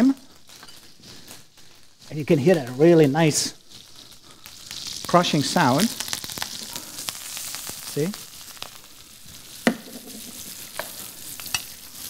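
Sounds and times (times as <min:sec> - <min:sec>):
fish sizzling in butter: 0:00.0 - 0:12.0.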